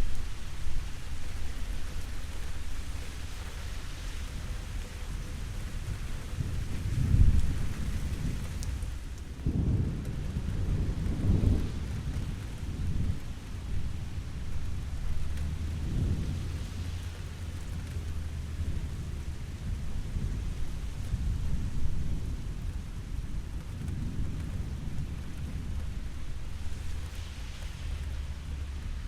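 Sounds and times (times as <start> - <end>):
steady rain: 0.0 - 29.0
thunder rumbling: 4.7 - 29.0.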